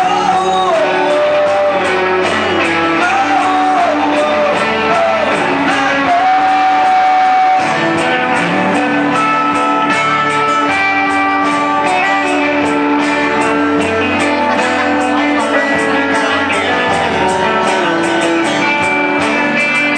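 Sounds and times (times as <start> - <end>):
acoustic guitars strumming: 0.0 - 19.9.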